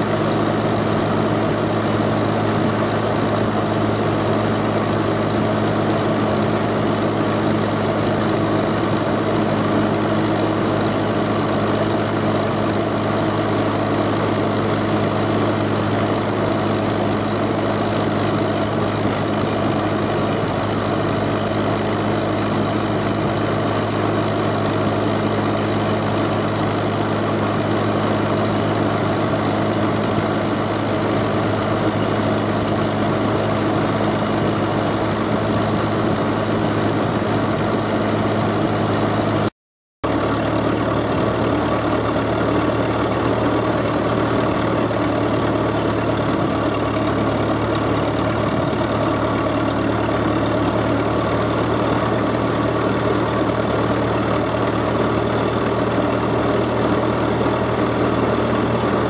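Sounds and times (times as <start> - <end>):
tractor engine running steadily: 0.0 - 59.0.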